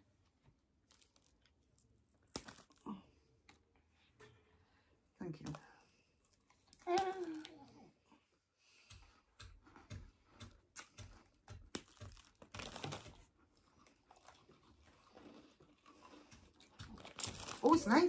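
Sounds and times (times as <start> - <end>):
biscuits crunching and crinkling: 0.0 - 4.0, 5.2 - 8.0, 9.0 - 18.0.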